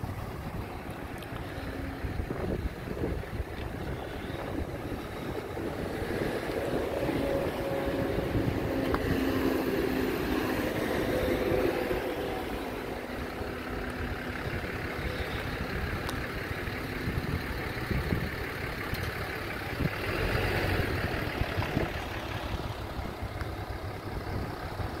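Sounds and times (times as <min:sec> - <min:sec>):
wind noise on microphone: 0:00.0 - 0:12.1, 0:14.5 - 0:25.0
diesel engine running: 0:00.0 - 0:25.0.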